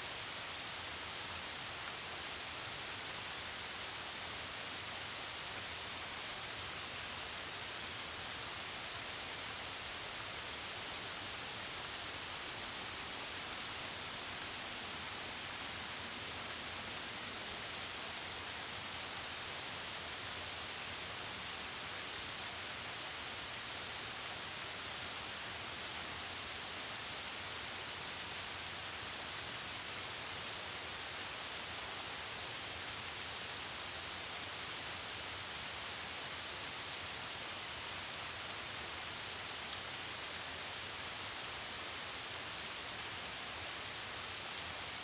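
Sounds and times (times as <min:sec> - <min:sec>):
waterfall rushing over rocks: 0:00.0 - 0:45.0.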